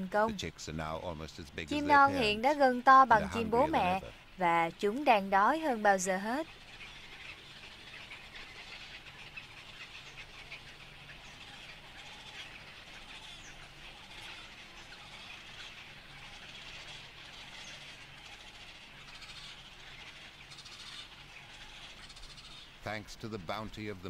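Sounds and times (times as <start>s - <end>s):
chicks begging calls: 0.0s - 0.3s, 1.6s - 22.8s.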